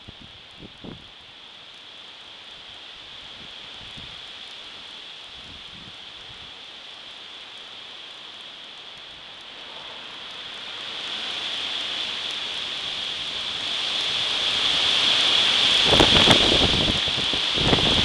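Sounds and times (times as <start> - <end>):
wind gusting through leaves: 0.0 - 18.0.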